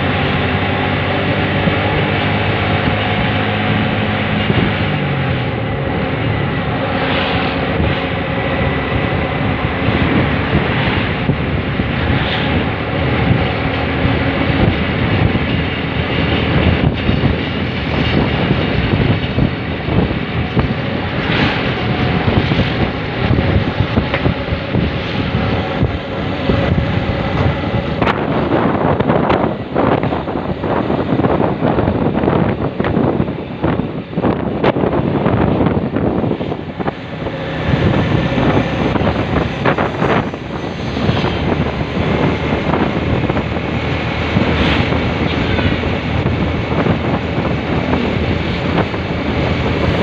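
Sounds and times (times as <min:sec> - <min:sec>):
road noise: 0:00.0 - 0:50.0
vehicle engine: 0:00.0 - 0:50.0
wind noise on microphone: 0:00.0 - 0:50.0.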